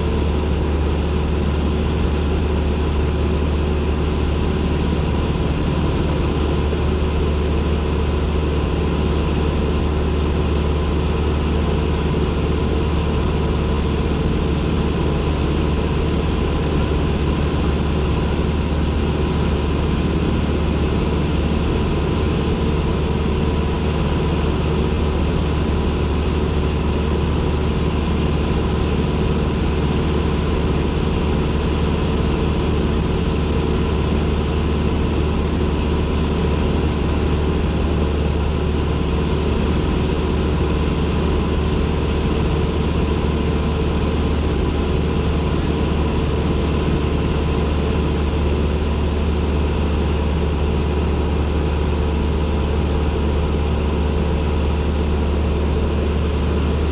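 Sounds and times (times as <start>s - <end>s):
small plane engine and propeller: 0.0s - 56.9s.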